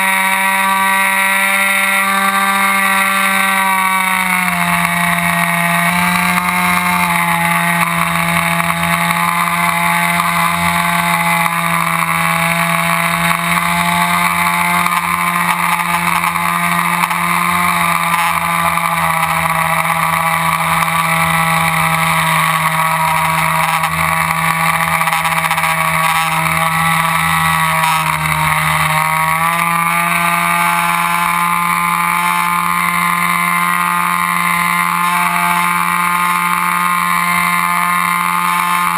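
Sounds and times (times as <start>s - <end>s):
model airplane motor droning: 0.0s - 38.9s.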